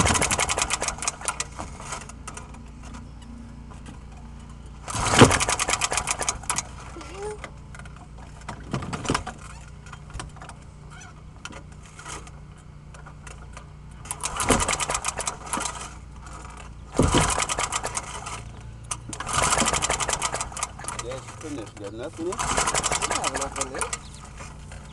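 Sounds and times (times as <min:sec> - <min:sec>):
lawnmower starter cord pulls: 0:00.0 - 0:03.1, 0:04.8 - 0:10.6, 0:11.4 - 0:24.9
engine cranking: 0:00.0 - 0:24.9.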